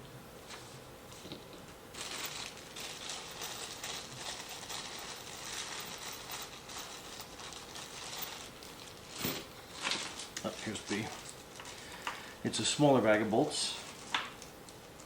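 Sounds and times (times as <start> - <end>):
plastic bags rustling and crinkling: 1.1 - 14.9.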